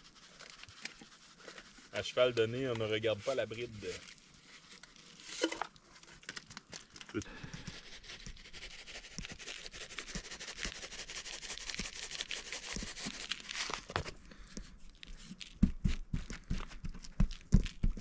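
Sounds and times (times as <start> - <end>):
crackly rustle of seasoning: 0.0 - 15.6.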